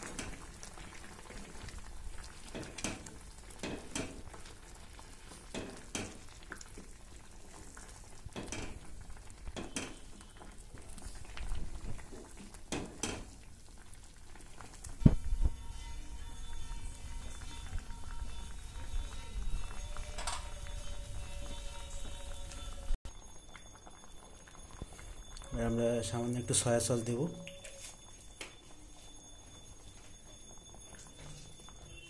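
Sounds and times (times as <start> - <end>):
soup bubbling: 0.0 - 32.0.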